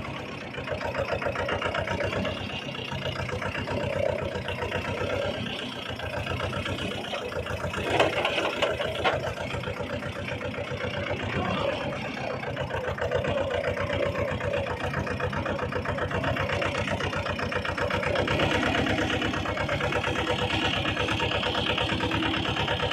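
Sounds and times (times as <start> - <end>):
tractor engine idling: 0.0 - 22.9.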